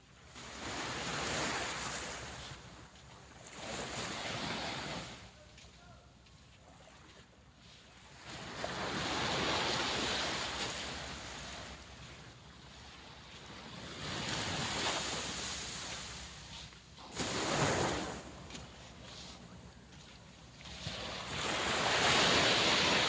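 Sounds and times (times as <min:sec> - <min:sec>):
small waves breaking on sand: 0:00.0 - 0:23.0.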